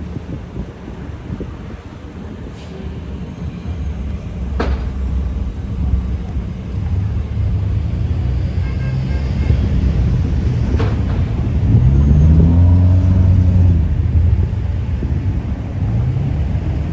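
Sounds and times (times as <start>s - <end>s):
vehicle engine rumble approaching: 0.0s - 16.9s.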